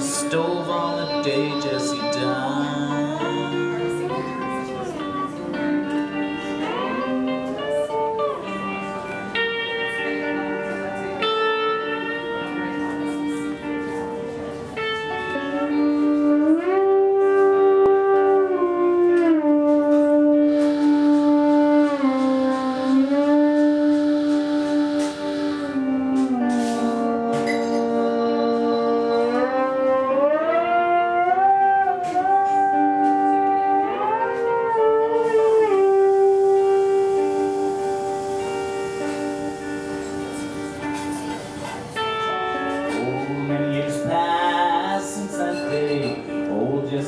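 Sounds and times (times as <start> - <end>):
lap steel guitar with slide: 0.0 - 47.0.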